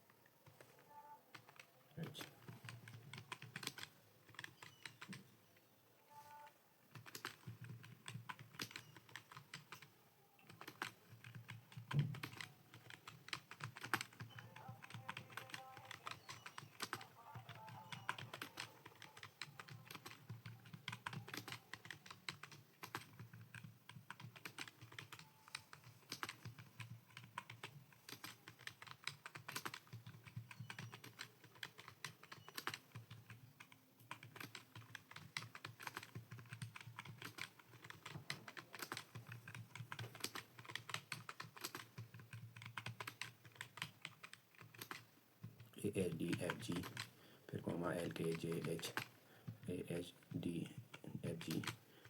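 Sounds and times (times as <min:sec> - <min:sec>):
keyboard typing: 0:00.2 - 0:52.0.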